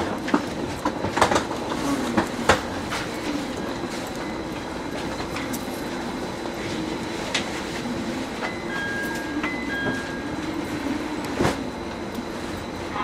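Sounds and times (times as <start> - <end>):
train humming: 0.0 - 13.0.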